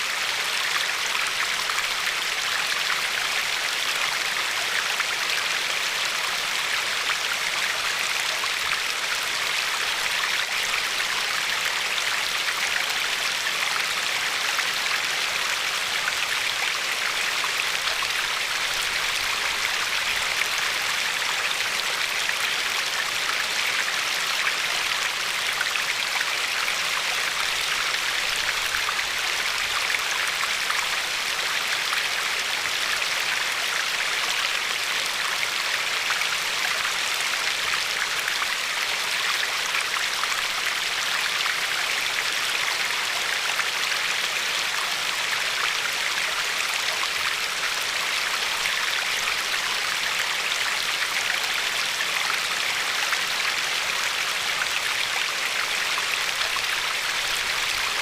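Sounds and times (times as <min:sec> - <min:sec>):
river water flowing over pebbles: 0:00.0 - 0:58.0.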